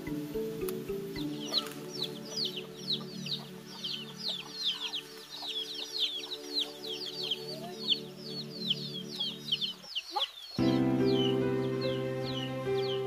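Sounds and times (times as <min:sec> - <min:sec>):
chicks peeping: 0:00.0 - 0:13.0
soft background music: 0:00.0 - 0:13.0.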